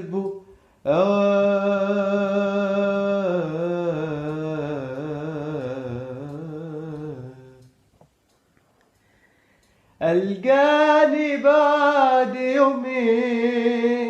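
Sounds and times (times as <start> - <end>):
man singing without words: 0.0 - 7.8, 10.0 - 14.0.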